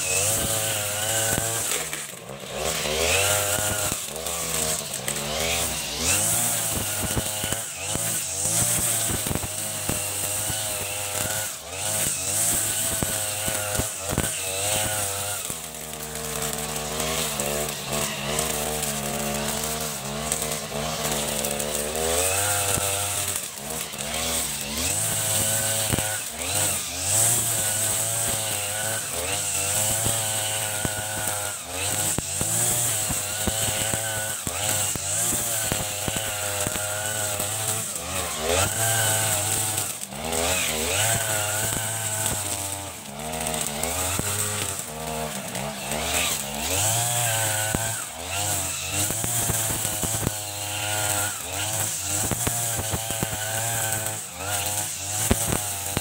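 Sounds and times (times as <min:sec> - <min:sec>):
brush cutter engine high revs: 0:00.0 - 0:56.0
cutting head hissing: 0:02.7 - 0:56.0.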